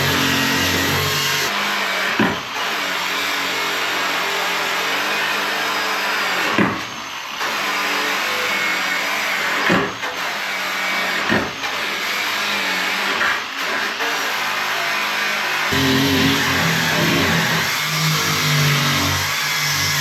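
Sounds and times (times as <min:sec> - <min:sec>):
power tool stripping metal: 0:00.0 - 0:20.0.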